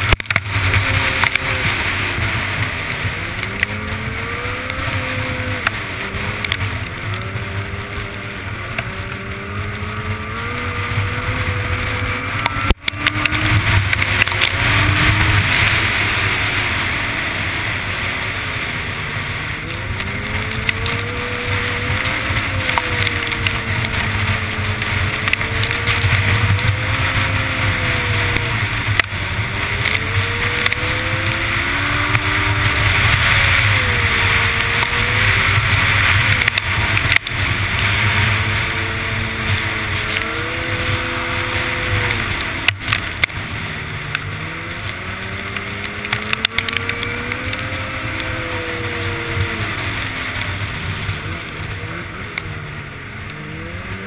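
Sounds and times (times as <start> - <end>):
snowmobile engine revving: 0.0 - 54.0
steady rushing noise: 0.0 - 54.0.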